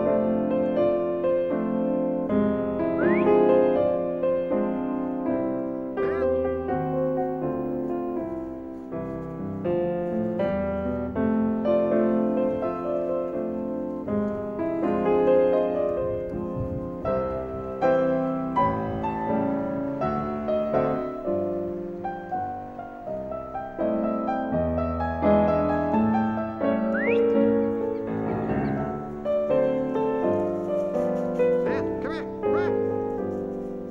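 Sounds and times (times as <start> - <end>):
piano music: 0.0 - 33.9.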